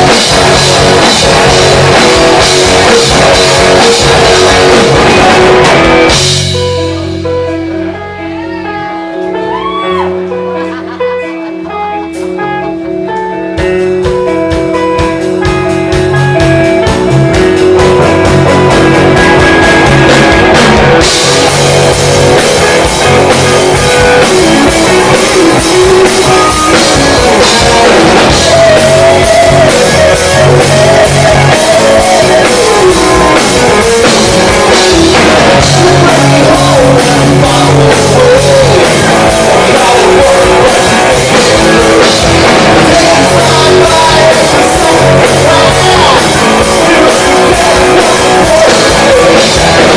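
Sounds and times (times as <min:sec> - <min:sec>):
lead guitar line bending in pitch: 0:00.0 - 0:49.9
rock band playing live: 0:00.0 - 0:49.9.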